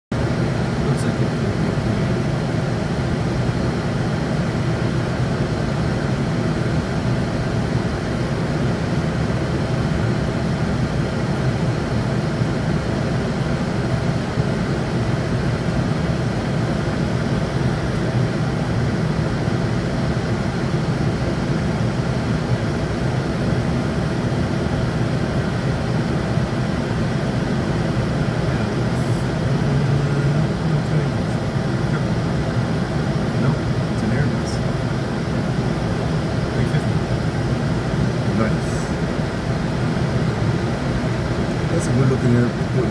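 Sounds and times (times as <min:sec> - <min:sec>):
jet engine drone: 0:00.1 - 0:42.9
cockpit airflow noise: 0:00.2 - 0:42.9.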